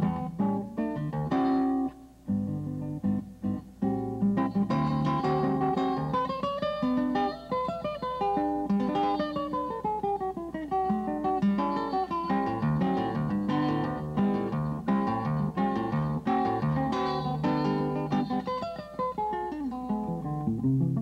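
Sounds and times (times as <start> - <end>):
classical guitar playing: 0.0 - 21.0.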